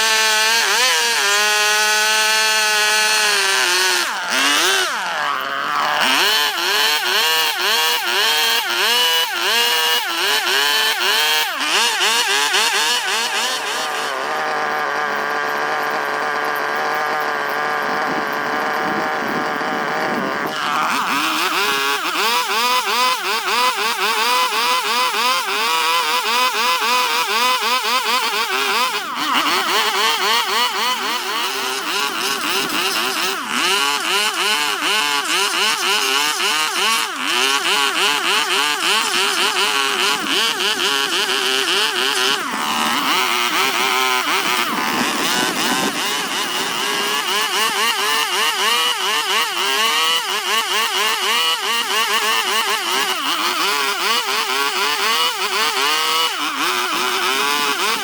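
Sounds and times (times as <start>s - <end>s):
power carving tool cutting wood: 0.0s - 58.0s.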